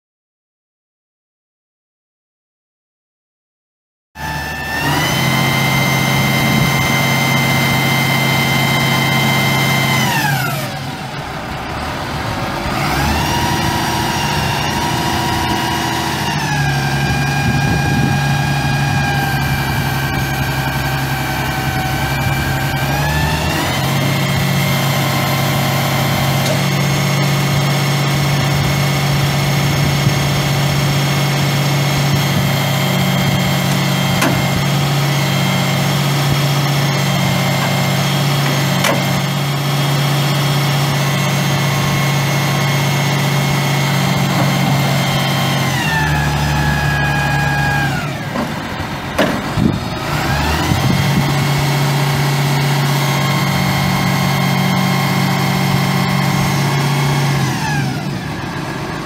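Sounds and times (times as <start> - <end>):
truck diesel engine running: 4.2 - 59.0.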